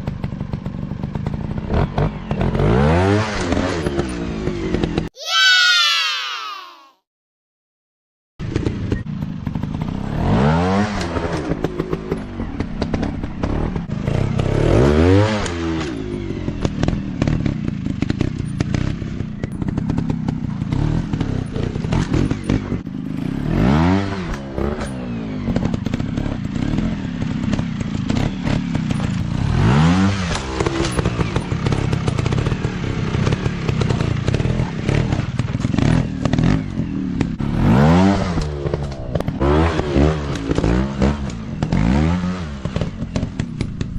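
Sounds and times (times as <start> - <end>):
dirt bike engines revving: 8.5 - 43.9.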